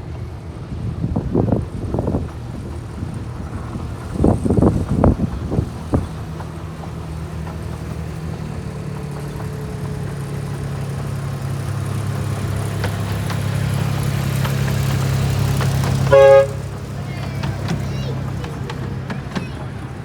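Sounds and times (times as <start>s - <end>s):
miniature locomotive engine running: 0.0s - 20.0s.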